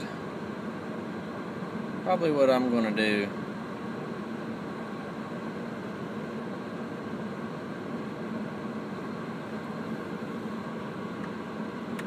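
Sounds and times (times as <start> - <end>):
engine low hum: 0.0 - 12.0
heater blower fan rushing: 0.0 - 12.0.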